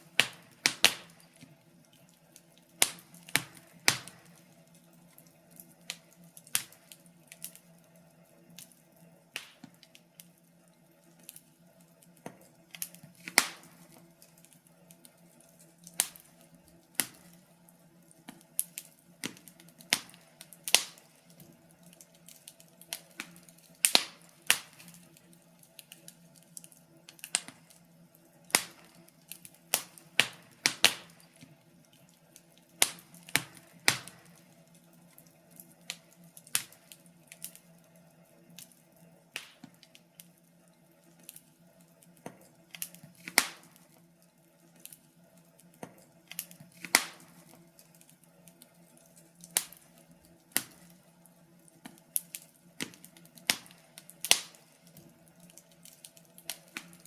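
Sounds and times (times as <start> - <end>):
wood fire popping and snapping: 0.0 - 57.0.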